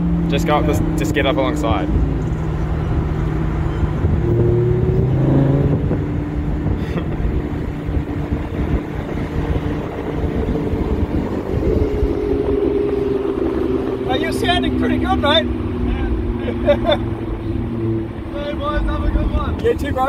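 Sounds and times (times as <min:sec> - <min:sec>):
car engine running: 0:00.0 - 0:20.0
tyre and road rumble: 0:00.0 - 0:20.0.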